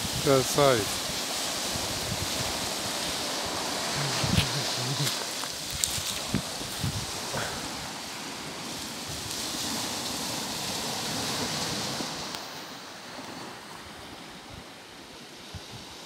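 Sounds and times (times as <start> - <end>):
small waves breaking on shore: 0.0 - 16.0.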